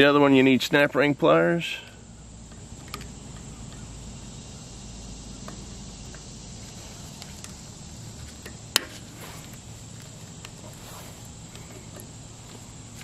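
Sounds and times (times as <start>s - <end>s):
insect drone: 0.0s - 13.0s.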